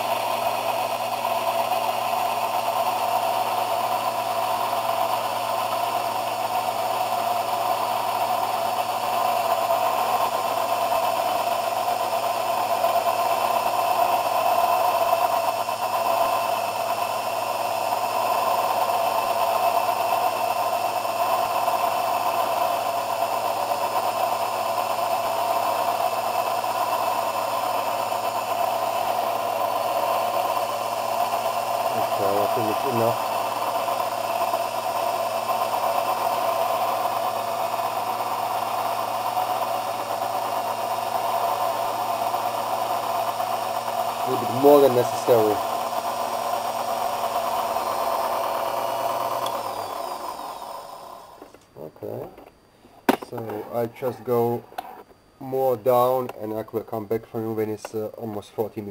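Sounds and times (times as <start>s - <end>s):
lathe motor whining: 0.0s - 52.5s, 53.1s - 56.4s.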